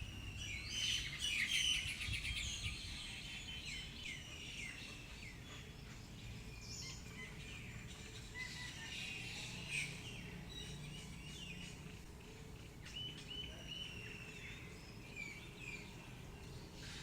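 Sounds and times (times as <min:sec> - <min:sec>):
birds chirping and singing: 0:00.0 - 0:17.0
steady low background noise: 0:00.0 - 0:17.0.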